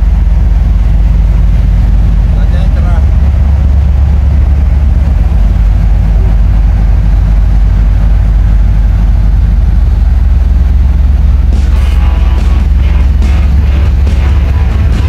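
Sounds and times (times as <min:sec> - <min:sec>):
ferry engines droning: 0:00.0 - 0:15.0.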